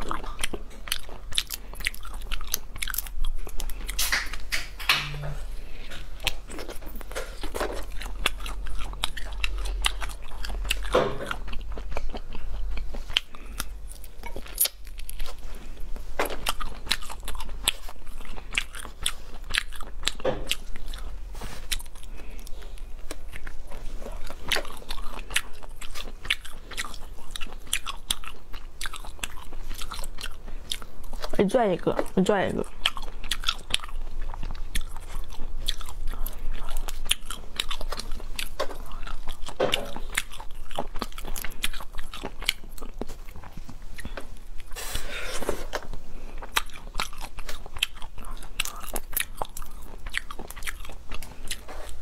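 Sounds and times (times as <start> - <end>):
wet chewing and smacking: 0.0 - 52.0.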